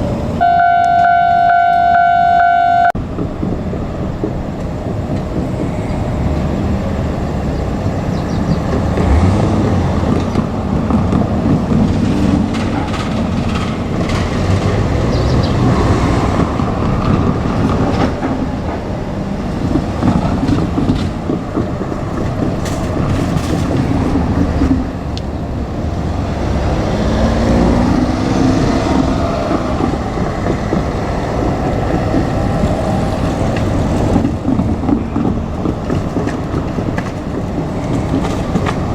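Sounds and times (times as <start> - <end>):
electric train rumbling on rails: 0.0 - 38.9
wheels clicking over rail joints: 3.0 - 38.9.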